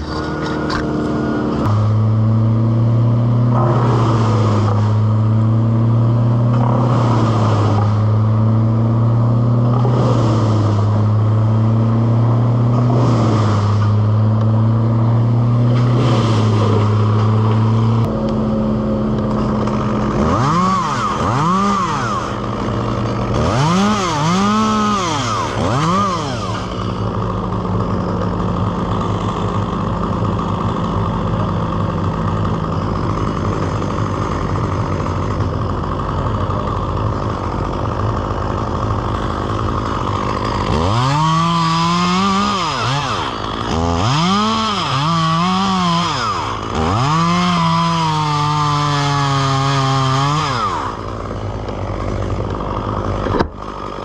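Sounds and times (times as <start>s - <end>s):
chainsaw revving: 0.0s - 54.0s
steady engine drone: 0.0s - 54.0s.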